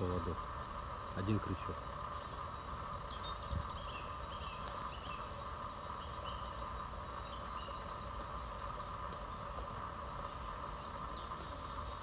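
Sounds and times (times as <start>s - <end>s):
high buzzing insect chorus: 0.0s - 12.0s
bird chirps: 0.5s - 8.6s, 9.2s - 12.0s.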